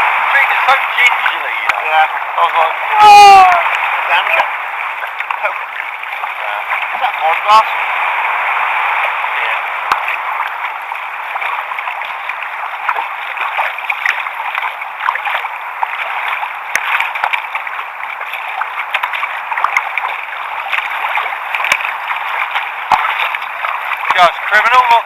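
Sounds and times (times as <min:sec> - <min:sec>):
water lapping against kayak hull: 0:00.0 - 0:25.0.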